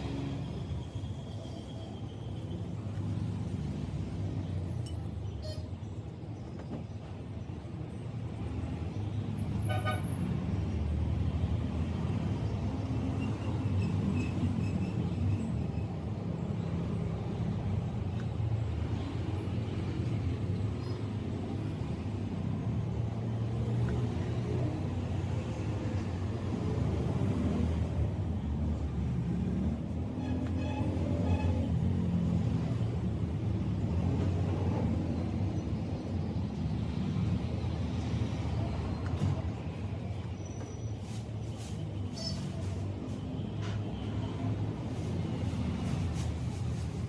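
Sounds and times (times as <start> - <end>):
road traffic rumbling: 0.0 - 47.0.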